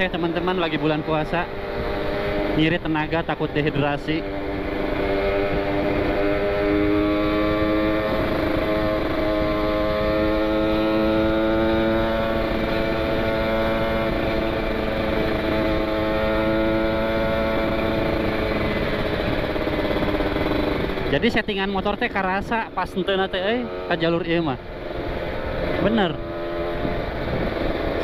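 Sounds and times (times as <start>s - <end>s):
motorcycle engine accelerating: 0.0s - 28.0s
wind rushing over microphone: 0.0s - 28.0s.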